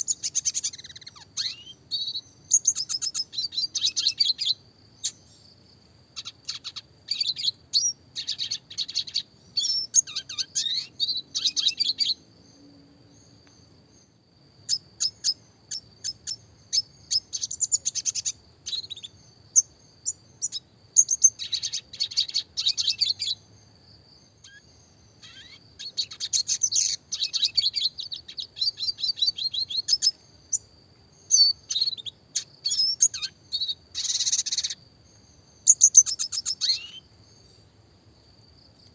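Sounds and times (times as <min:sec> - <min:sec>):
bird twittering song: 0:00.0 - 0:37.7.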